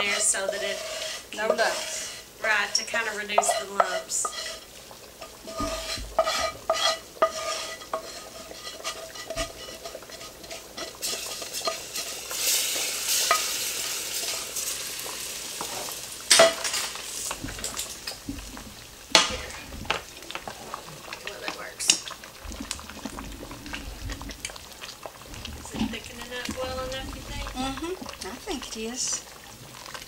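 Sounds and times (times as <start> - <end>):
sizzling: 0.0 - 30.0
stirring in a pot: 0.0 - 30.0
wooden spoon scraping skillet: 0.0 - 30.0.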